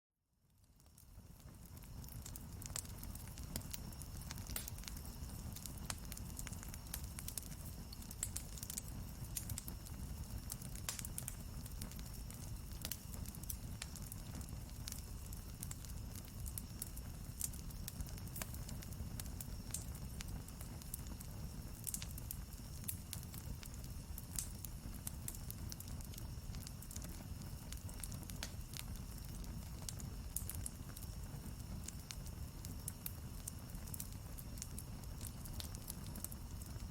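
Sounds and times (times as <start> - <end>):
low rumble of fire: 0.4 - 36.9
campfire crackling and popping: 0.7 - 36.9.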